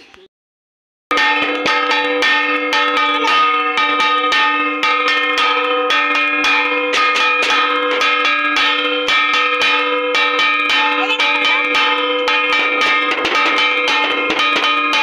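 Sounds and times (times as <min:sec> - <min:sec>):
metal bells ringing rapidly: 0:01.1 - 0:15.0.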